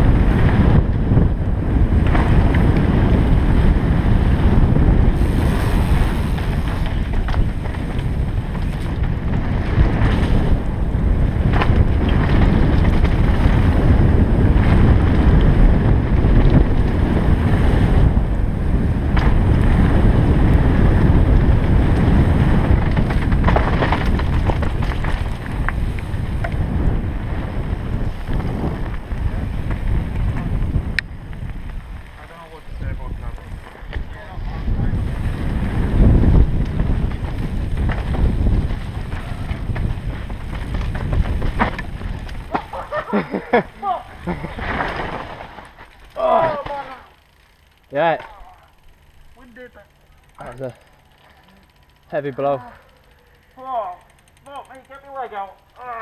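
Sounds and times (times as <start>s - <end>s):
wind buffeting microphone: 0.0s - 47.9s
bike knocks and rattles: 0.0s - 52.1s
tyres rumbling on gravel: 0.0s - 52.3s.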